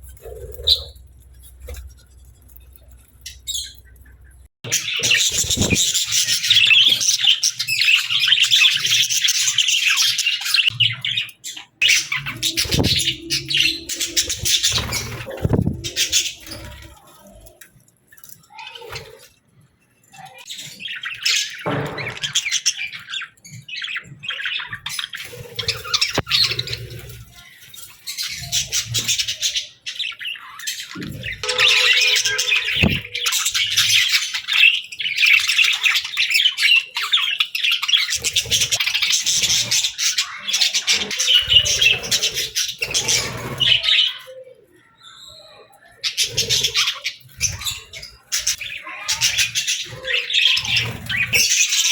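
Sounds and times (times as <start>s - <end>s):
birds chirping and squawking: 0.0s - 51.9s.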